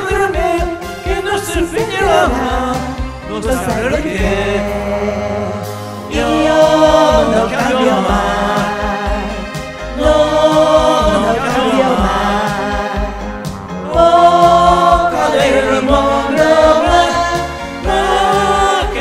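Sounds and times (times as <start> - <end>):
people singing karaoke: 0.0 - 19.0
pop backing track: 0.0 - 19.0.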